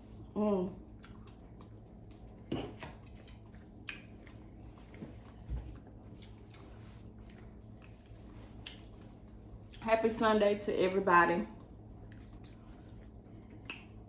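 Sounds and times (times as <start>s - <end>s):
chewing and biting: 0.9s - 9.8s, 11.6s - 14.0s.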